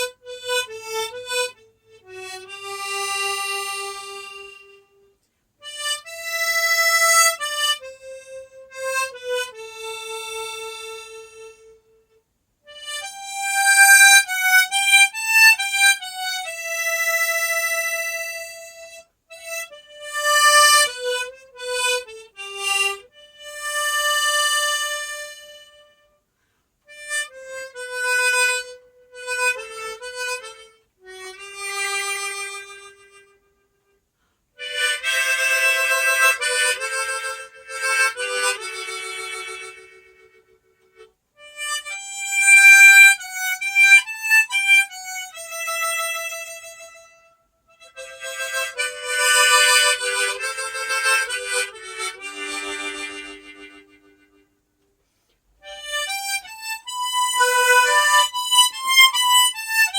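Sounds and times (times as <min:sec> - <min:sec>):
harmonica melody: 0:00.0 - 0:59.9.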